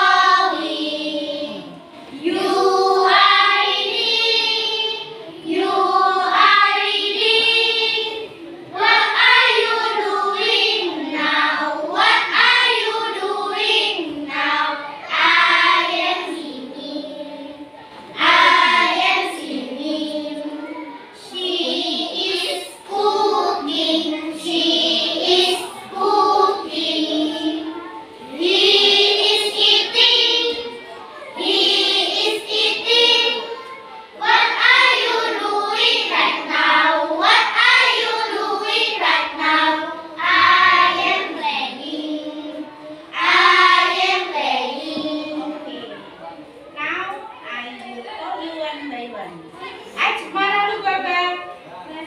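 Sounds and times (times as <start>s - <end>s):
children singing in unison: 0.0s - 46.1s.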